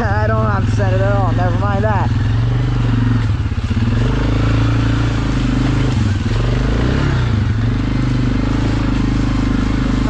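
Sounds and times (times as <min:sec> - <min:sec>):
atv engine under throttle: 0:00.0 - 0:10.0.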